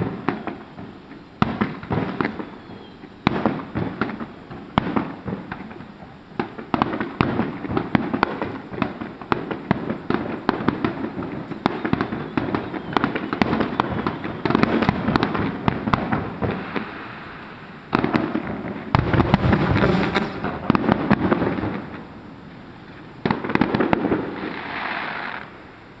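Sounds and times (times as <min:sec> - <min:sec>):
fireworks cracking and popping: 0:00.0 - 0:26.0.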